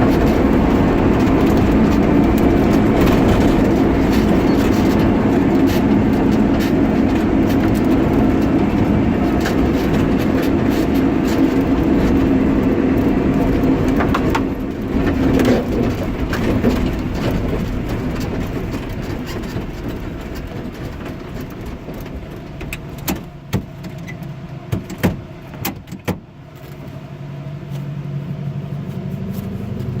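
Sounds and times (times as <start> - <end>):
supercharged engine running loud: 0.0 - 25.0, 26.7 - 30.0.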